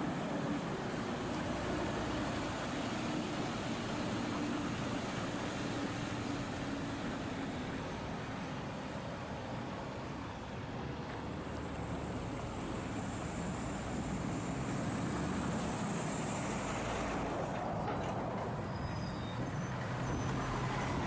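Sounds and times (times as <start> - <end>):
lorry diesel engine rumble: 0.0 - 21.0
road noise: 0.0 - 21.0.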